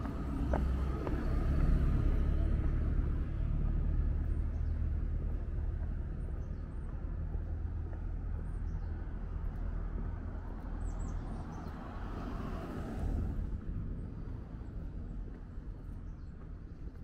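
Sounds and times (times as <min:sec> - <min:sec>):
low street rumble: 0:00.0 - 0:17.0
vehicle passing: 0:00.0 - 0:17.0.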